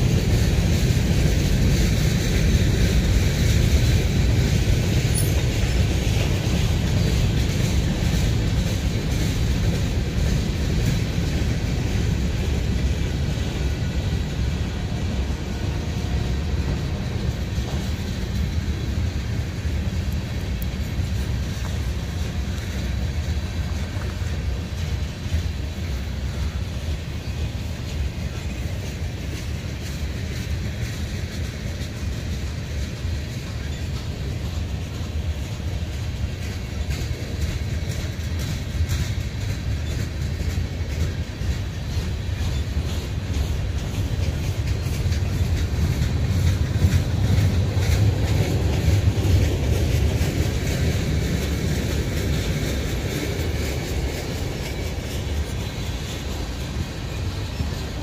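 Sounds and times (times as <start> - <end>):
freight train cars rolling: 0.0 - 58.0.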